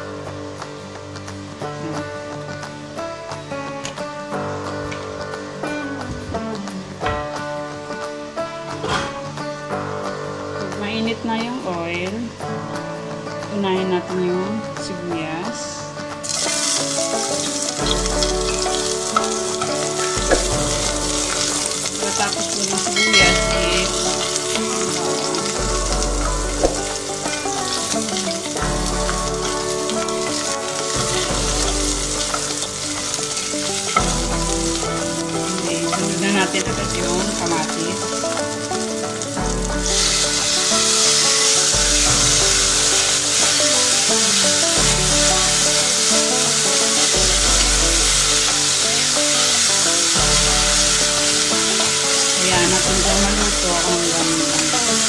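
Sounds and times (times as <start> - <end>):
background music with bass: 0.0 - 55.0
onion sizzling in hot oil: 0.0 - 55.0.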